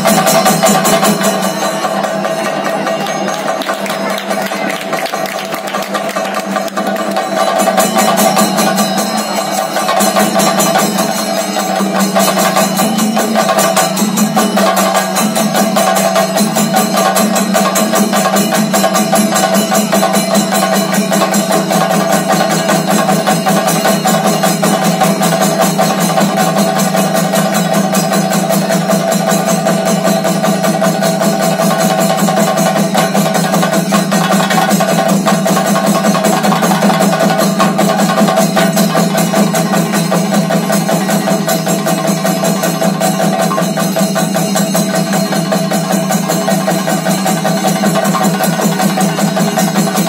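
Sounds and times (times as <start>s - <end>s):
drums beaten in fast rolls: 0.0s - 50.0s
hand cymbals: 0.0s - 50.0s.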